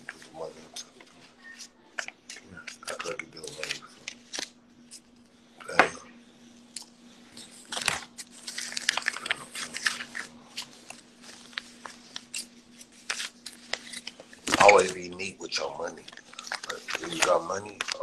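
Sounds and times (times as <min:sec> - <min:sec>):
banknotes rustling: 0:00.0 - 0:05.2, 0:07.0 - 0:18.0
faint steady hum: 0:00.0 - 0:18.0.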